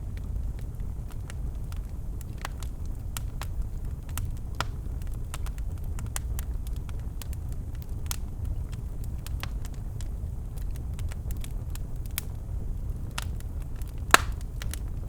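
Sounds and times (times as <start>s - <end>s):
logs crackling in a fireplace: 0.0s - 15.0s.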